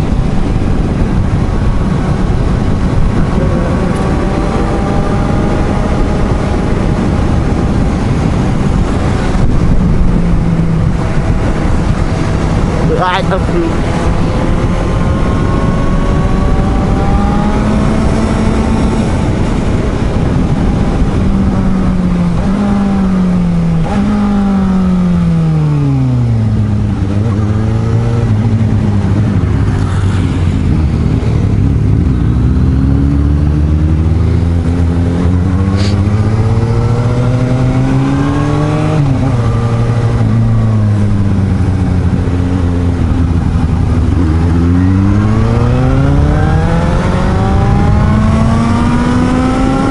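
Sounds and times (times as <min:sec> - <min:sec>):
motorcycle engine revving: 0:00.0 - 0:49.9
wind rushing: 0:00.0 - 0:49.9.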